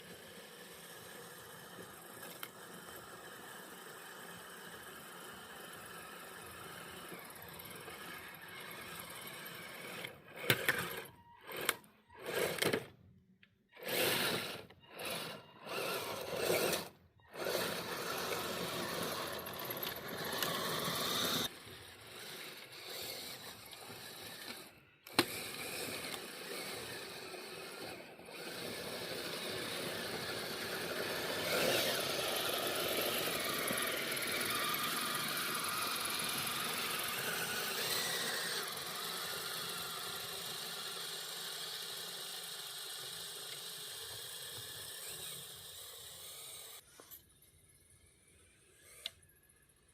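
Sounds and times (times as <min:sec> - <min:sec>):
electric motor and metal tracks: 0:00.0 - 0:13.1, 0:13.7 - 0:49.9.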